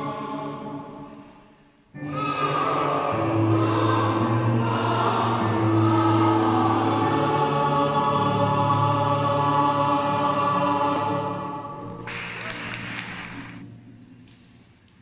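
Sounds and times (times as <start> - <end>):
mixed choir sustained chord: 0.0 - 1.2, 2.0 - 13.9.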